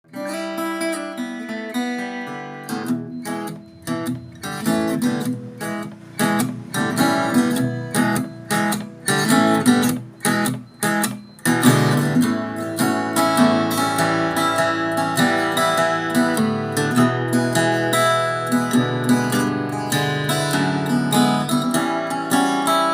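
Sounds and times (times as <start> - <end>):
acoustic guitar picked notes: 0.0 - 22.9
acoustic guitar strumming chords: 0.0 - 22.9.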